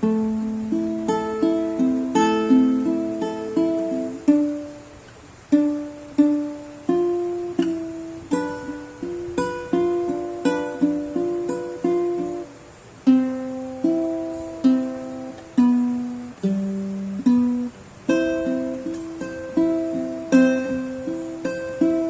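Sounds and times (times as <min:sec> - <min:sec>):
ukulele-like plucked melody: 0:00.0 - 0:22.0.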